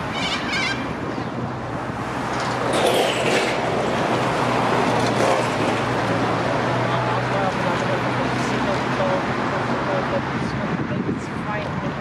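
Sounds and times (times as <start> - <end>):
broad rush of passing vehicle: 0.0 - 12.0.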